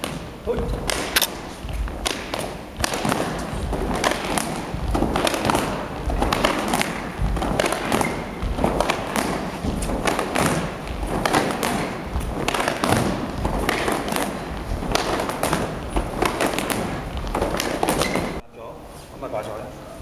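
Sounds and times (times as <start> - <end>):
feet stamping on hall floor: 0.0 - 18.4
uniforms snapping: 0.0 - 18.4.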